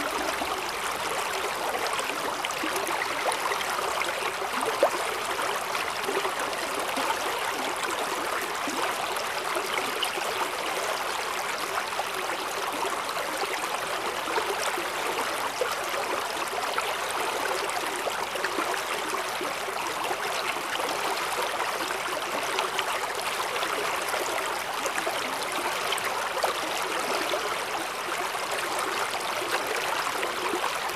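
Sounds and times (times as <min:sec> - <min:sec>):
stream flowing: 0:00.0 - 0:30.9.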